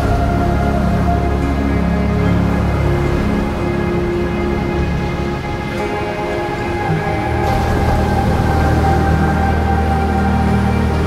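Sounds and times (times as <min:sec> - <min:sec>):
deep low drone: 0:00.0 - 0:11.0
soundtrack music with held notes: 0:00.0 - 0:11.0.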